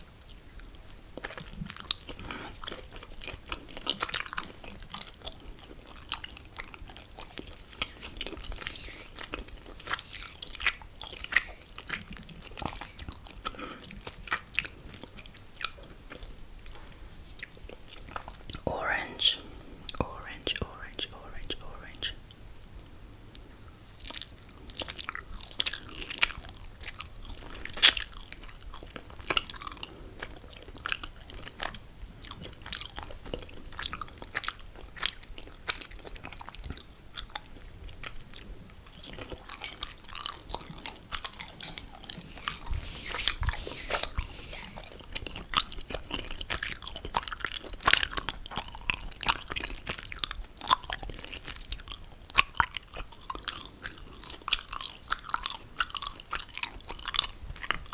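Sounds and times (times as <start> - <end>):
chewing with wet mouth clicks: 0.1 - 16.8, 23.3 - 57.9.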